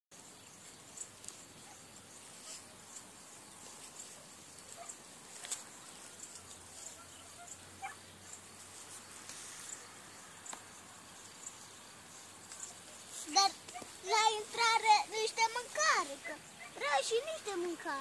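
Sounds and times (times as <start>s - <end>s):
insects chirping in grass: 0.2s - 18.0s.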